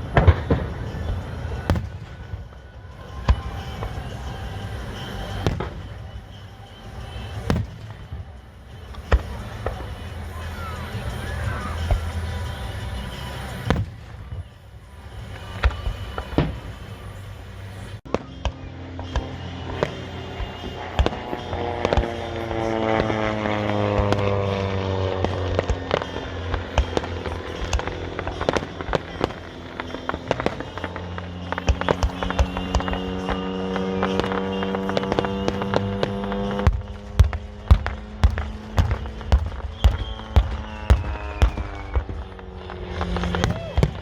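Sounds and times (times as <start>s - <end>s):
fireworks bursting: 0.0s - 44.0s
propeller aircraft passing: 0.0s - 44.0s
steady low rumble: 0.0s - 44.0s.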